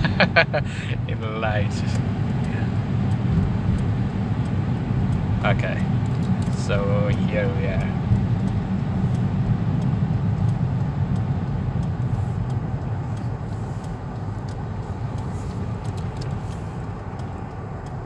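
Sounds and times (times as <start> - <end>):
car tyres and engine rumble: 0.0 - 18.0.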